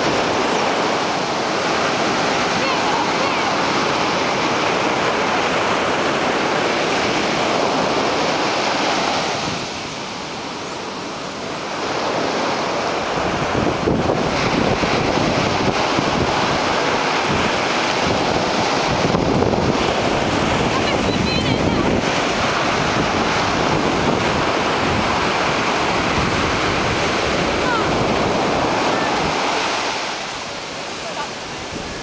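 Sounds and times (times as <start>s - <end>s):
surf on beach: 0.0s - 32.0s
wind buffeting microphone: 0.0s - 32.0s.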